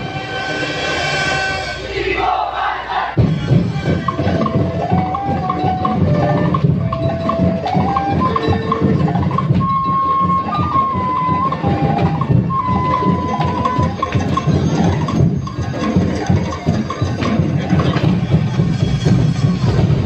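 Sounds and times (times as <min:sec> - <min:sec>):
dance music with drumming: 0:03.1 - 0:20.0.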